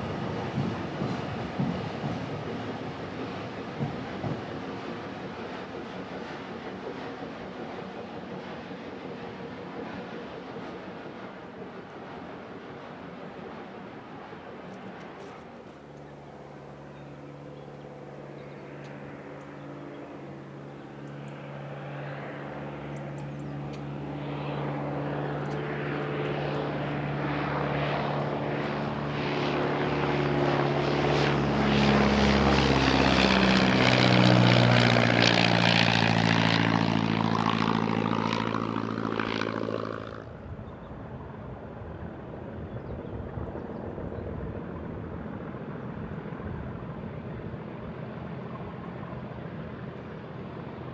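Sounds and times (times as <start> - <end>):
diesel locomotive engine passing: 0.0 - 50.9.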